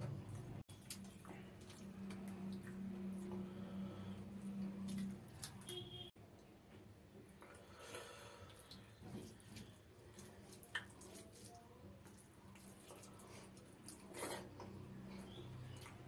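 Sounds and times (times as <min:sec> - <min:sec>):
wet squishing of fingers in food: 0:00.2 - 0:06.1, 0:07.2 - 0:16.0.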